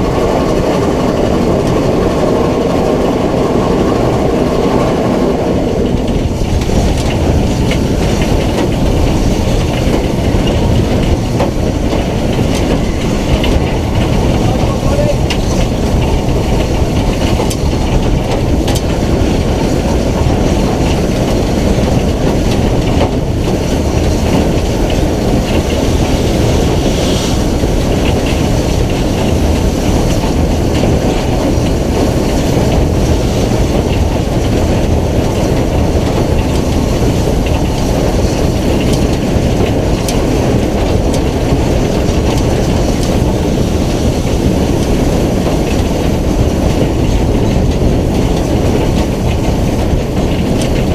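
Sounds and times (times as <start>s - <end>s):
steam locomotive rumble: 0.0s - 50.9s
wind buffeting camera: 0.0s - 50.9s.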